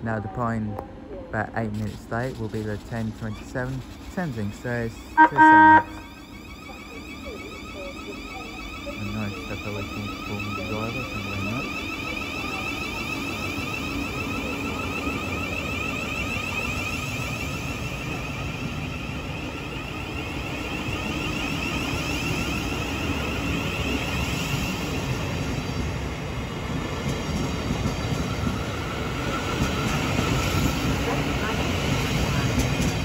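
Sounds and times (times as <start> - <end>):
wheels rumbling on rails: 0.0 - 33.0
train motor whine: 1.7 - 33.0.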